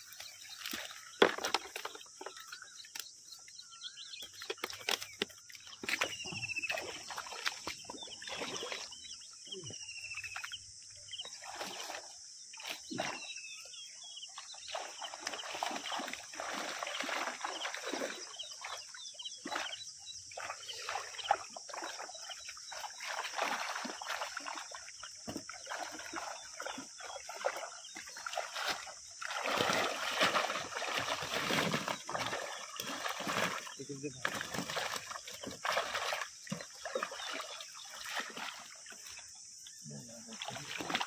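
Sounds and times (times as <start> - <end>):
splashing of muddy water: 0.0 - 3.2, 4.0 - 10.6, 11.2 - 41.0.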